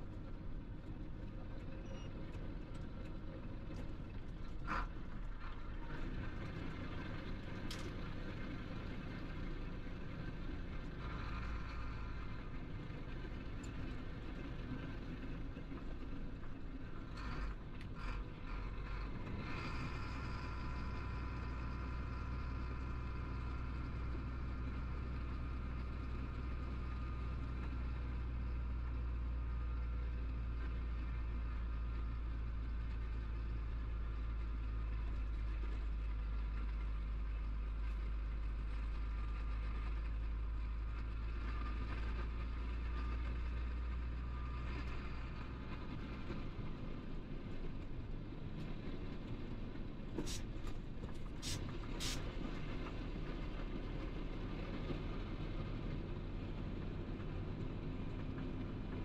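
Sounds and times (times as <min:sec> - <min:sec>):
diesel engine drone: 0:00.0 - 0:59.0
road noise: 0:00.0 - 0:59.0.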